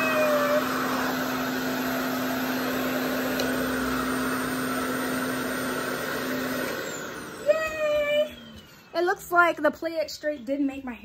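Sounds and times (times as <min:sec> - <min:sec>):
hair dryer running: 0:00.0 - 0:10.8.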